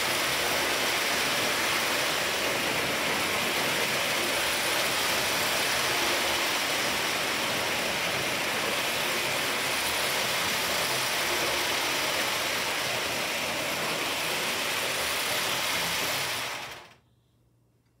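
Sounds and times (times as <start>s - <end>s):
toy train wheels rattling on rails: 0.0s - 17.0s.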